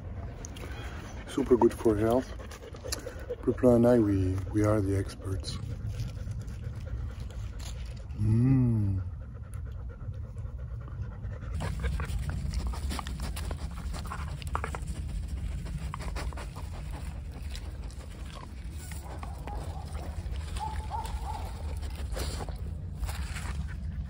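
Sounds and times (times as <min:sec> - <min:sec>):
dog panting: 0:00.3 - 0:08.1, 0:09.0 - 0:24.0.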